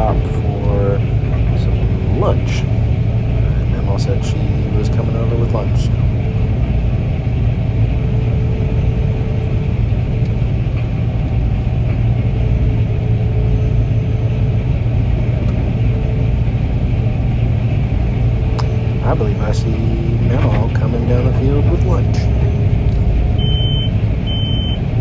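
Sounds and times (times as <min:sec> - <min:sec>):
combine engine and threshing machinery: 0:00.0 - 0:25.0
faint steady hum: 0:00.0 - 0:25.0.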